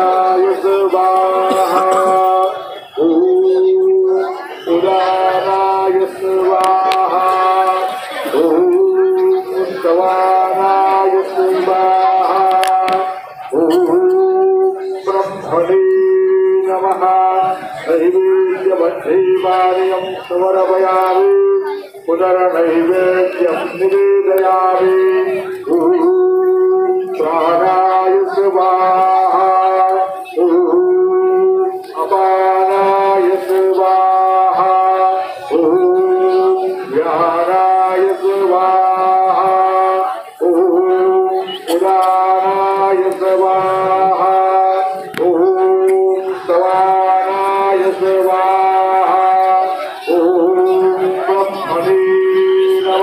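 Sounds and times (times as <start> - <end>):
person singing devotional song: 0.0 - 53.0.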